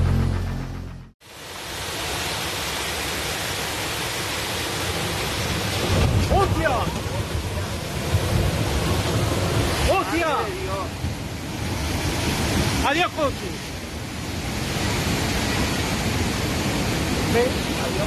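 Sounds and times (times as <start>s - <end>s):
heavy rain: 0.0s - 18.0s
wind: 0.0s - 18.0s.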